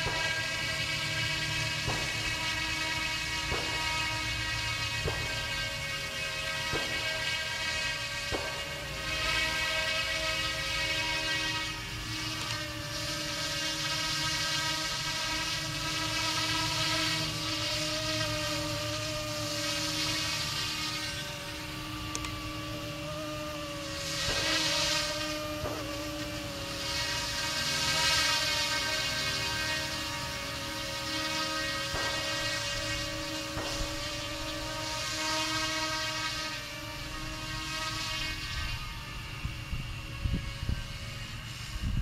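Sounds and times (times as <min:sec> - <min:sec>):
rc helicopter motor whine: 0:00.0 - 0:42.0
rushing noise of helicopter overhead: 0:00.0 - 0:42.0.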